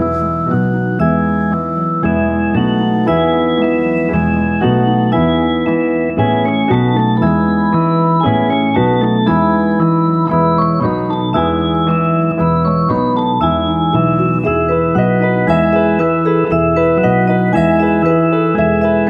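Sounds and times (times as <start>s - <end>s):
organ-like keyboard music: 0.0s - 19.0s.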